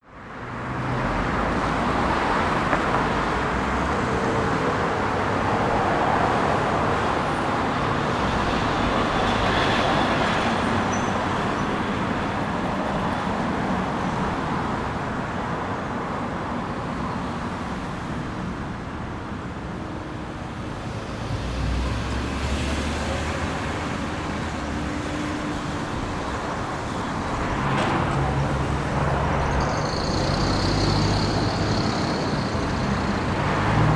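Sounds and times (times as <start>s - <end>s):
cars passing: 0.1s - 33.9s.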